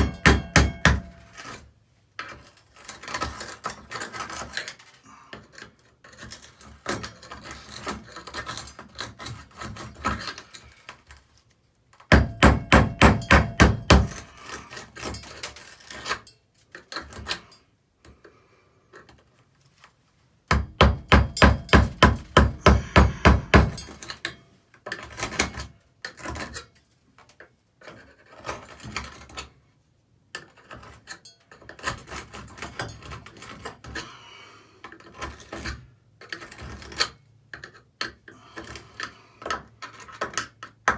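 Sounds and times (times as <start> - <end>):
tools scraping and clinking: 1.0 - 12.0, 14.0 - 20.0, 22.8 - 29.6, 30.3 - 40.9.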